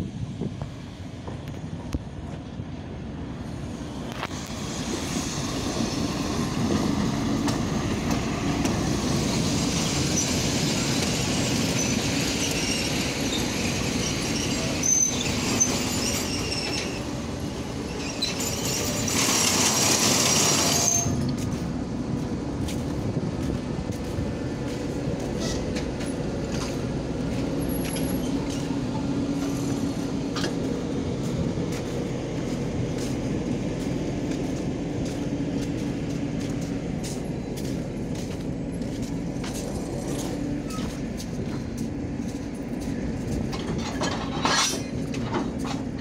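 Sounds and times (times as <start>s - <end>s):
diesel locomotive engine running: 0.0s - 46.0s.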